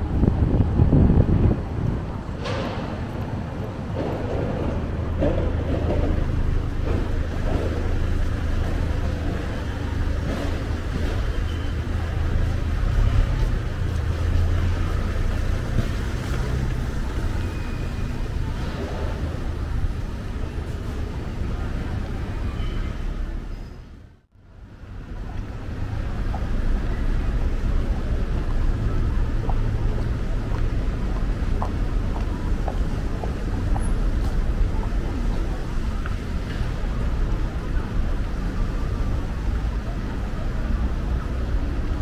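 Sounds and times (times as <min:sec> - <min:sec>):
faint voices of passers-by: 0:00.0 - 0:42.0
street noise: 0:00.0 - 0:42.0
vehicle engine hum: 0:00.0 - 0:42.0.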